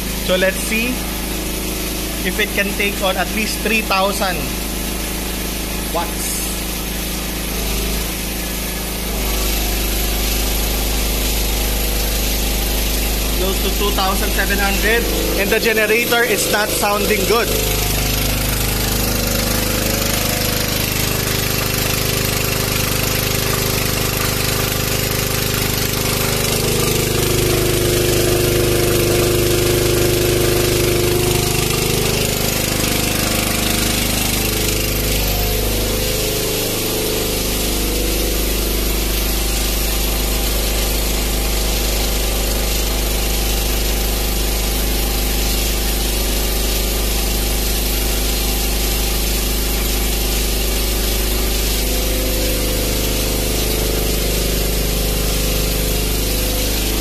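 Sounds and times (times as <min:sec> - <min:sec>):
generator engine running: 0:00.0 - 0:57.0.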